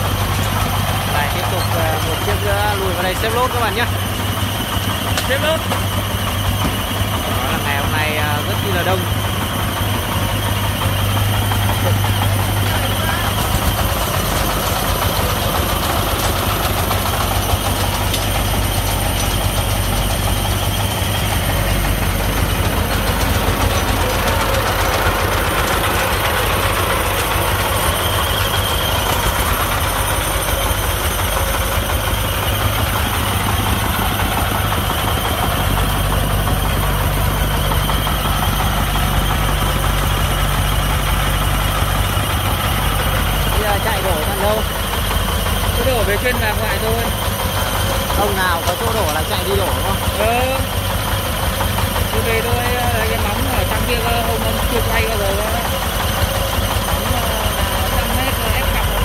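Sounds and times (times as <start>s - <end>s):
diesel truck engines running: 0.0s - 59.0s
low engine note: 0.0s - 59.0s.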